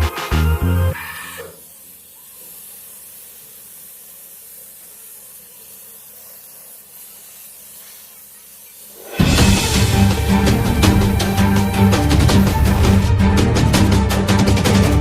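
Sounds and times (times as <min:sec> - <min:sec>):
paint spray hissing: 0:01.0 - 0:13.2.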